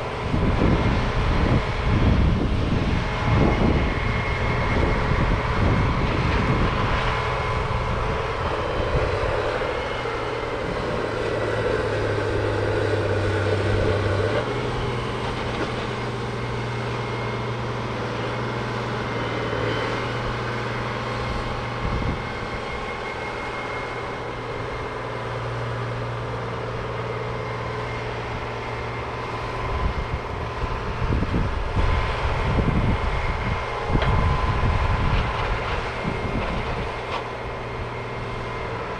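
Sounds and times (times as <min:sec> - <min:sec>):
heavy machinery engine running: 0:00.0 - 0:38.9.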